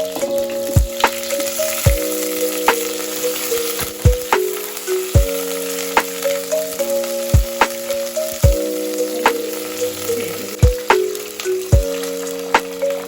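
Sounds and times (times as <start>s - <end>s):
background music with steady beat: 0.0s - 13.0s
food sizzling in a pan: 0.0s - 13.0s.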